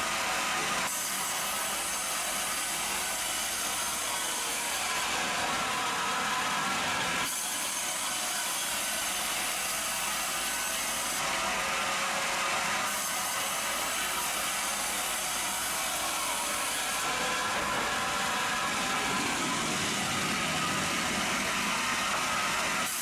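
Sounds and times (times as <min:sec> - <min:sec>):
sawmill saw cutting timber: 0:00.0 - 0:23.0.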